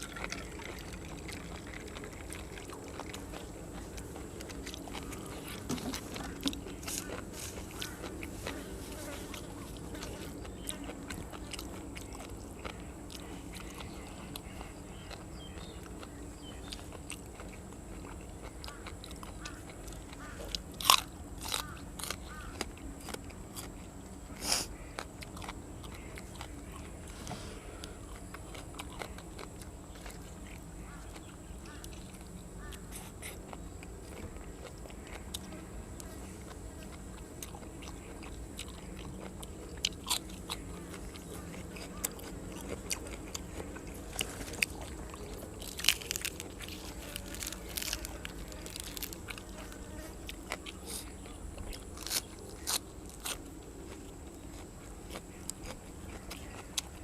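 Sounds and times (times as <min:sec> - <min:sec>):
person crunching and chewing: 0:00.0 - 0:57.0.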